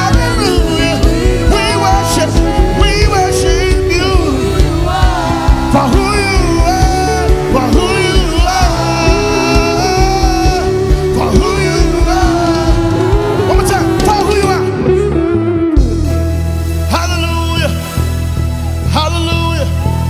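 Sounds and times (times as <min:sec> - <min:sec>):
gospel band music: 0:00.0 - 0:20.0.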